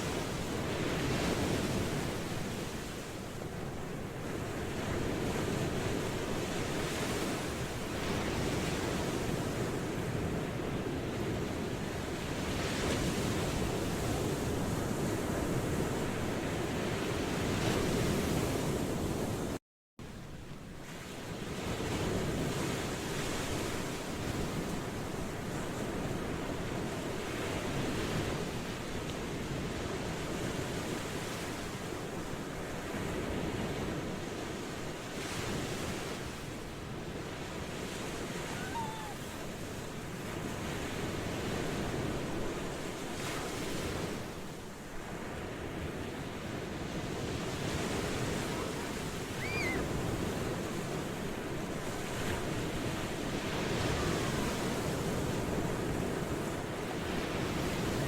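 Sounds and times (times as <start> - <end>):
ocean surf washing onto shore: 0.0 - 58.0.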